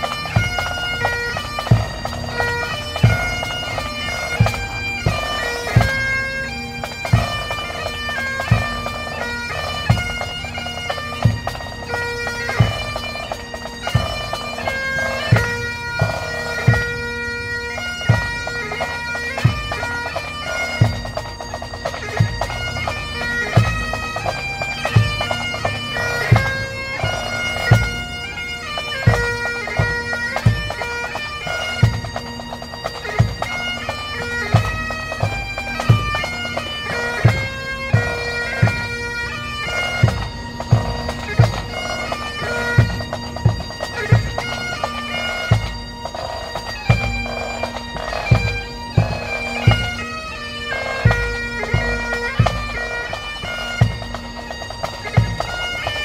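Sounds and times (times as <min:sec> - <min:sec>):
bagpipes playing slow melody: 0:00.0 - 0:56.0.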